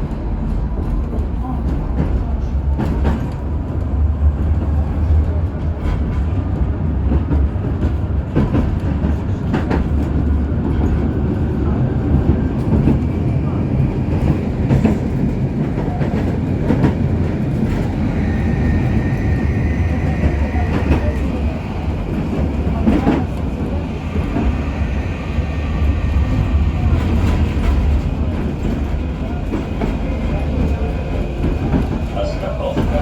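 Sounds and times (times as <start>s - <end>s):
tram wheels rumbling on rail: 0.0s - 33.0s.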